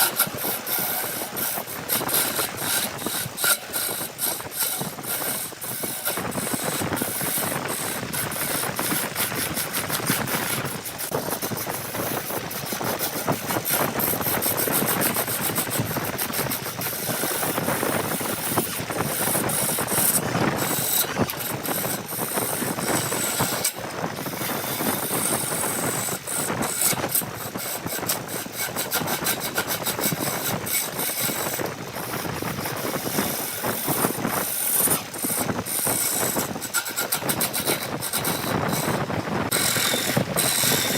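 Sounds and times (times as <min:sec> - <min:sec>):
powered saw cutting wood: 0:00.0 - 0:40.9.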